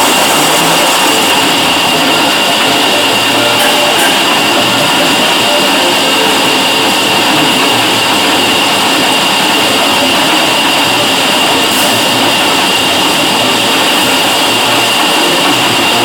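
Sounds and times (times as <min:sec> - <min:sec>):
high-pitched whine: 0:00.0 - 0:16.0
milling machine cutting metal: 0:00.0 - 0:16.0.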